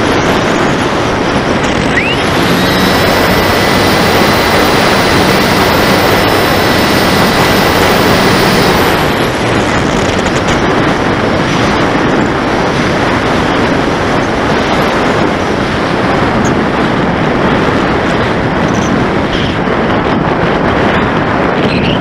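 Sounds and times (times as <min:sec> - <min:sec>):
wind and propeller rush: 0:00.0 - 0:22.0.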